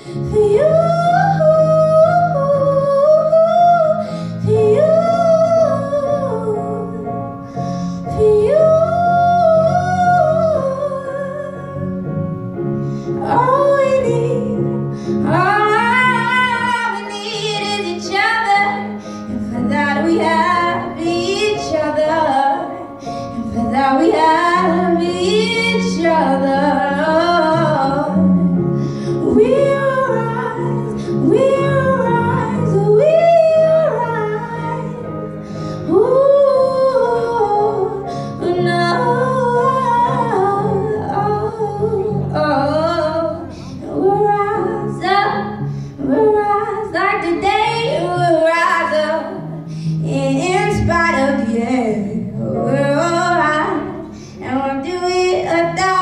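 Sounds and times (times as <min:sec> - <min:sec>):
woman singing into microphone: 0:00.0 - 0:07.1, 0:07.8 - 0:12.0, 0:13.2 - 0:28.2, 0:29.0 - 0:56.0.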